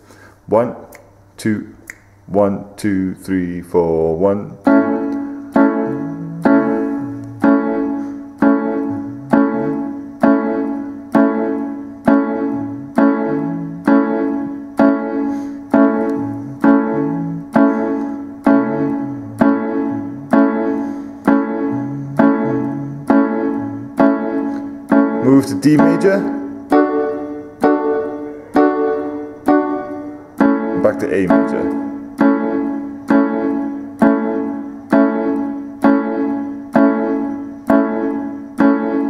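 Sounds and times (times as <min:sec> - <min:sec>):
electric piano chord strikes: 0:04.7 - 0:39.0.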